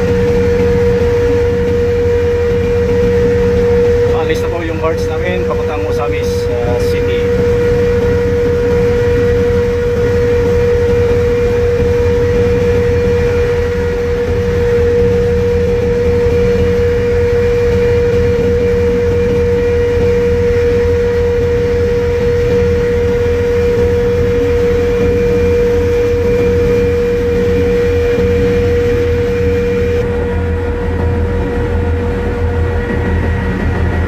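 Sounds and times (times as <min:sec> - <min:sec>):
ship diesel engines rumbling: 0:00.0 - 0:30.0.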